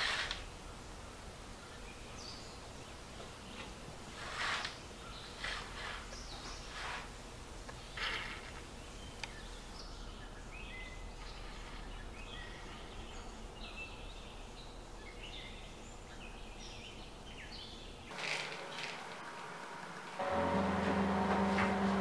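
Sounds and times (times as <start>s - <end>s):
small birds chirping: 0.0s - 19.1s
low background hum: 0.0s - 22.0s.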